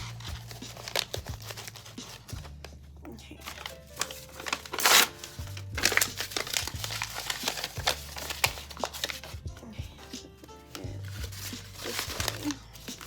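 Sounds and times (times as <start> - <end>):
paper bag crinkling: 0.0 - 2.6, 3.4 - 13.0
paper bag ripping: 0.0 - 2.6, 3.4 - 9.4, 10.0 - 13.0
background music: 0.0 - 13.0.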